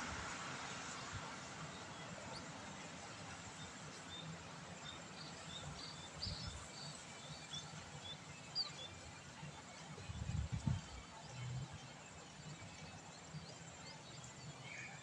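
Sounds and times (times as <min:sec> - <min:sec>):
light rain on wet road: 0:00.0 - 0:15.0.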